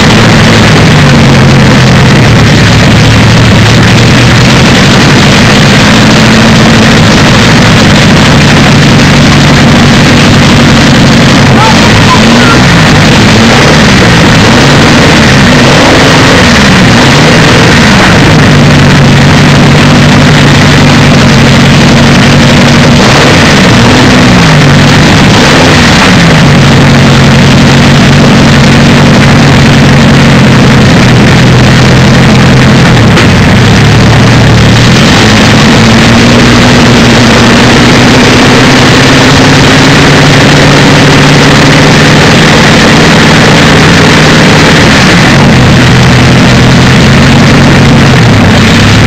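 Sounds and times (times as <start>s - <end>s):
aero engine idling loudly: 0.0s - 49.0s.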